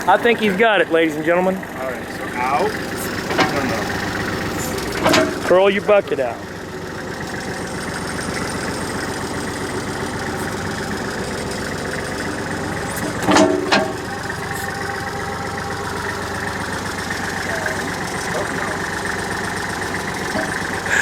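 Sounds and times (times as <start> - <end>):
backhoe engine idling: 0.0 - 21.0.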